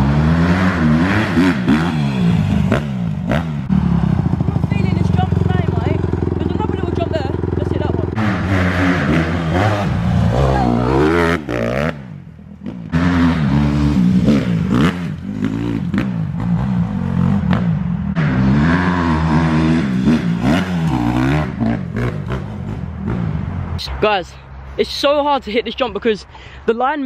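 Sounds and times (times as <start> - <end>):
dirt bike engine revving: 0.0 - 23.8.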